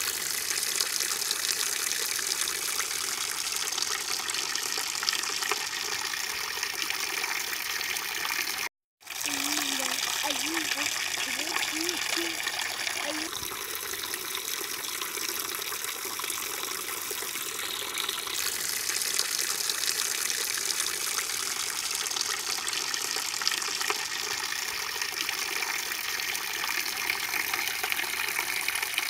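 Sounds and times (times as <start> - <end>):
water gushing onto rocks: 0.0 - 29.0.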